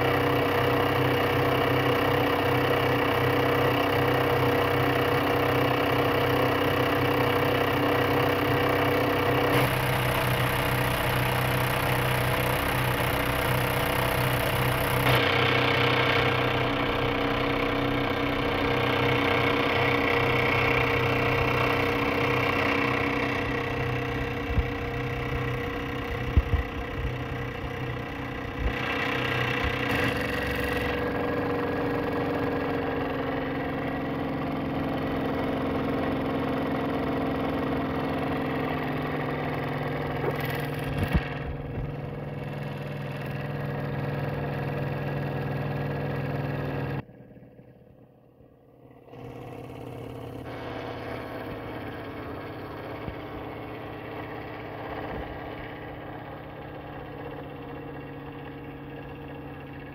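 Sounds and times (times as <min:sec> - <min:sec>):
model steam engine running: 0:00.0 - 0:47.0, 0:49.1 - 0:59.9.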